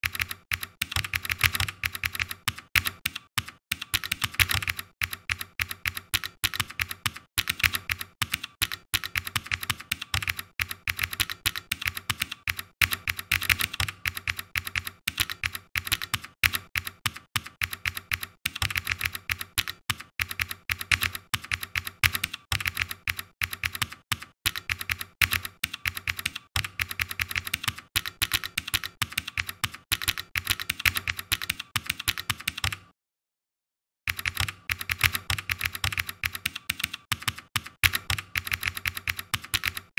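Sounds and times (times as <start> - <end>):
computer keyboard typing: 0.0 - 32.9, 34.1 - 39.9.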